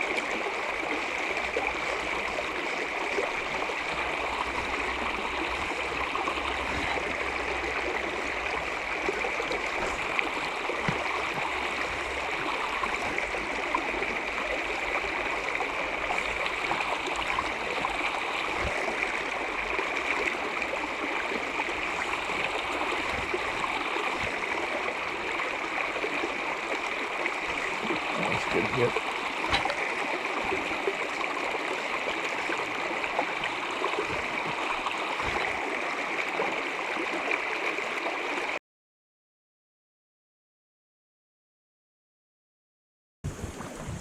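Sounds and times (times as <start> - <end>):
stream rushing over rocks: 0.0 - 38.6, 43.3 - 44.0.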